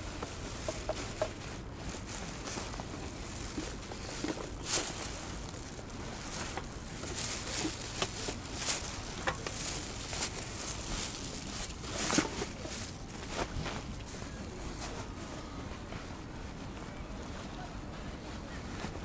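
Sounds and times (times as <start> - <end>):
plastic bags rustling and crinkling: 0.0 - 19.0.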